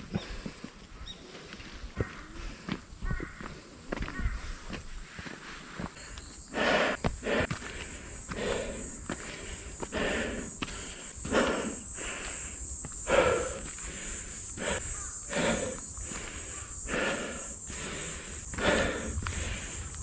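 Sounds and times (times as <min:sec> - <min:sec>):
crunching footsteps on a trail: 0:00.0 - 0:20.0.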